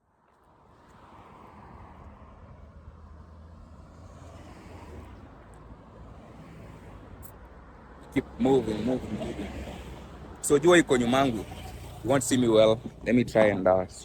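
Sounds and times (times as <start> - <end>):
vehicle engine hum: 1.8 - 14.0.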